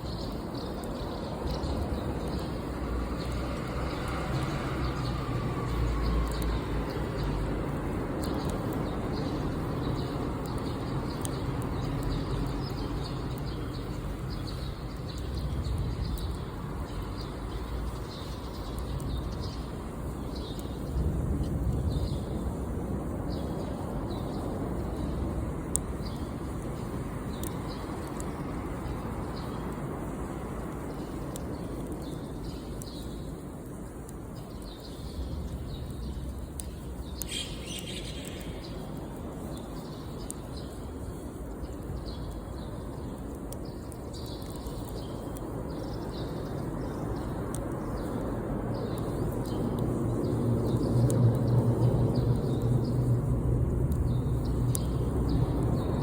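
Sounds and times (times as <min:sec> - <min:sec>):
campfire crackling: 0:00.0 - 0:56.0
small birds chirping: 0:00.0 - 0:56.0.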